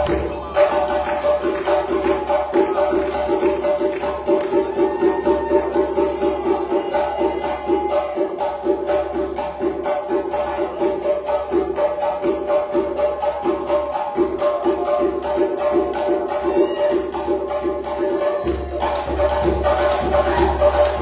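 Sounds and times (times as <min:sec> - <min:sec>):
djembe drumming: 0:00.0 - 0:21.0.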